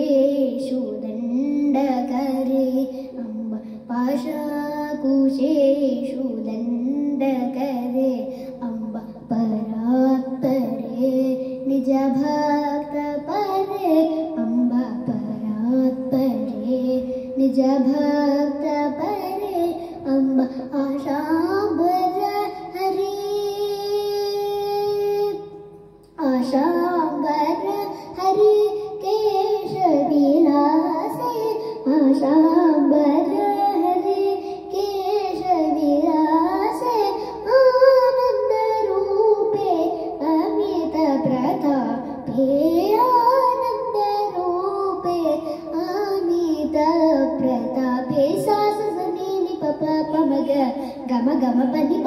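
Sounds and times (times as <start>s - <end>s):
girl singing: 0.0s - 52.0s.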